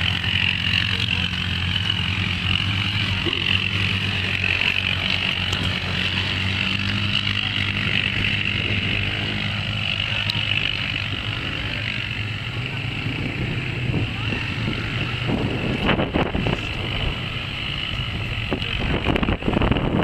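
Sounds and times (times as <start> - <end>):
quad bike engines humming: 0.0 - 20.0.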